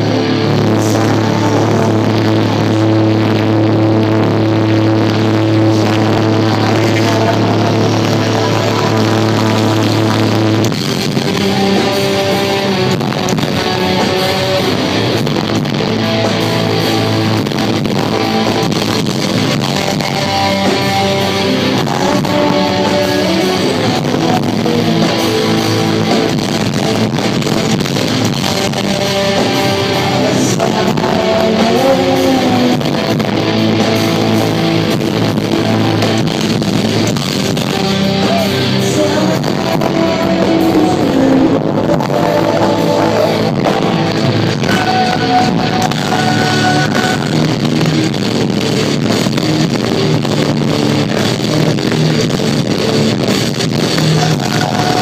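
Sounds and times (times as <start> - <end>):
live metal band playing: 0.0 - 55.0.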